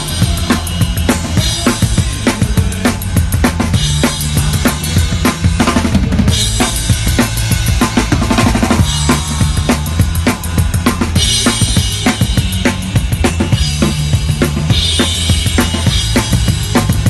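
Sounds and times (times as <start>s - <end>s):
bass drum and snare beat: 0.0s - 17.0s
bass guitar notes: 0.0s - 17.0s
rock band playing live: 0.0s - 17.0s.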